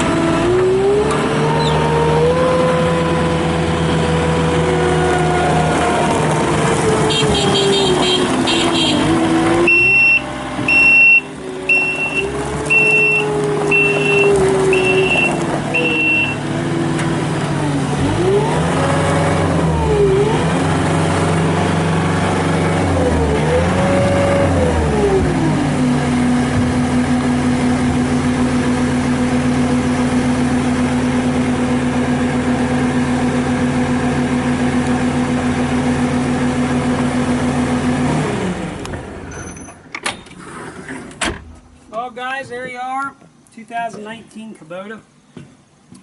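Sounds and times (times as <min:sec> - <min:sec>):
diesel engine running: 0:00.0 - 0:39.7.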